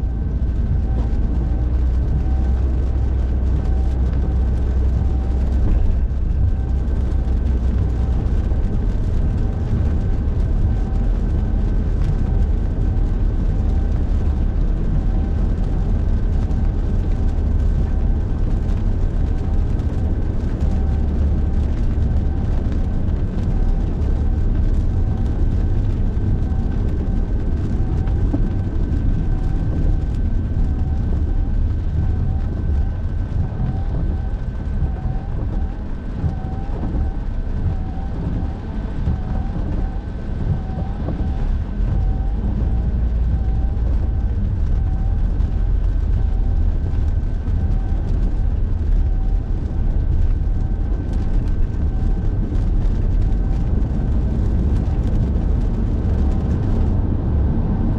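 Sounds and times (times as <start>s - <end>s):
car road and engine noise: 0.0s - 57.9s
heavy rain on car: 0.0s - 57.9s.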